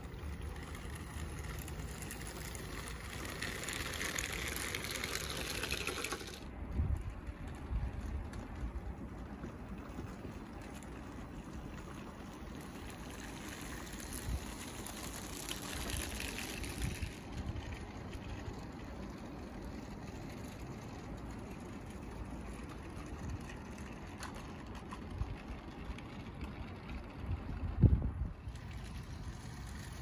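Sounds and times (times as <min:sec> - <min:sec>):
wind rumbling on microphone: 0:00.0 - 0:19.8, 0:21.6 - 0:30.0.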